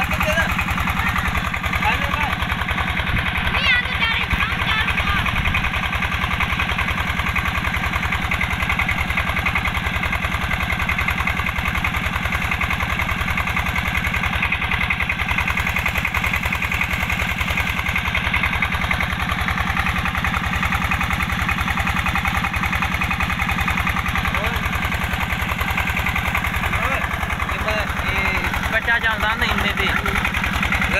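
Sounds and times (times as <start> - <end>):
diesel engine thudding: 0.0 - 30.9.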